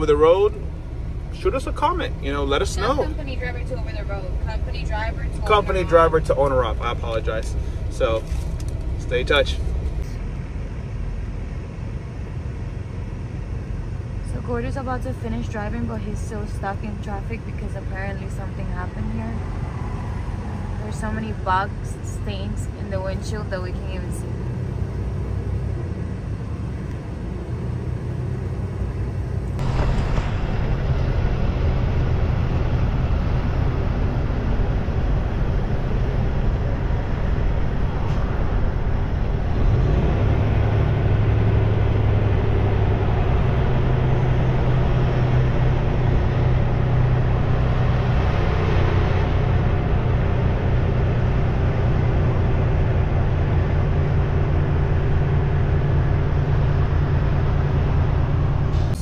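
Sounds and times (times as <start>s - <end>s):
road rumble: 0.0s - 59.0s
truck diesel engine running: 0.0s - 59.0s.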